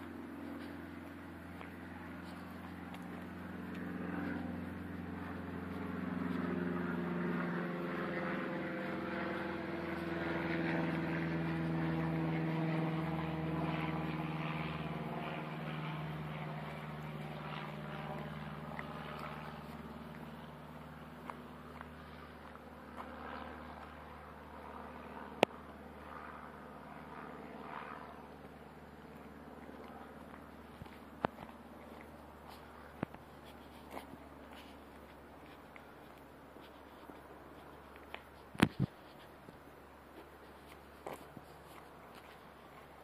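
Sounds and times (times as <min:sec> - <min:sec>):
distant engine droning: 0:00.0 - 0:43.0.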